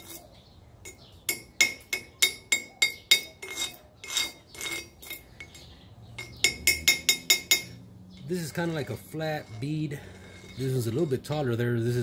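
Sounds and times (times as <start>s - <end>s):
wire brush clinking on steel: 0.0s - 12.0s
wire brush scraping steel: 0.0s - 12.0s.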